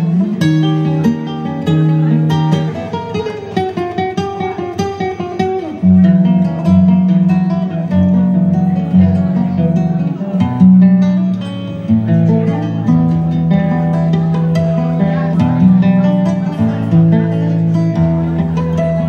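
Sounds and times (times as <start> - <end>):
guitar melody: 0.0 - 19.0.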